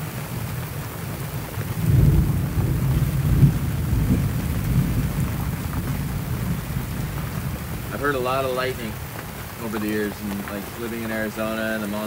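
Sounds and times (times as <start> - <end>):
thunder rumble: 0.0 - 11.4
heavy rain: 0.0 - 12.0.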